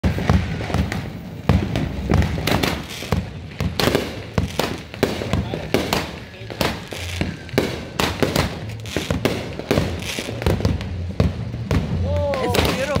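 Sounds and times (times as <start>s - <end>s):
firework shots and aerial bursts: 0.0s - 13.0s.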